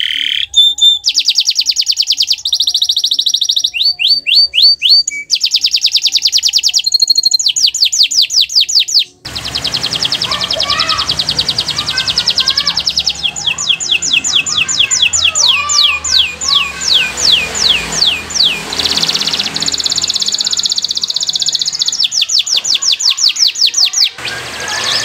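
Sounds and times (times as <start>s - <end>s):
canary singing trills: 0.0s - 25.0s
faint bird calls: 0.0s - 25.0s.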